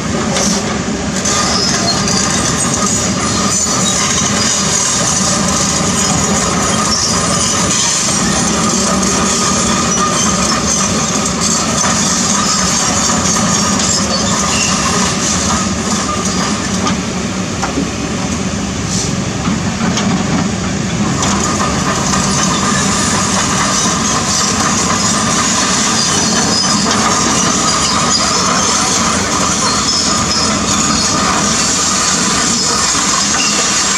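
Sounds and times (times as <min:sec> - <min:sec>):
excavator diesel engine running: 0:00.0 - 0:33.9
track chains clanking and squealing: 0:00.0 - 0:33.9.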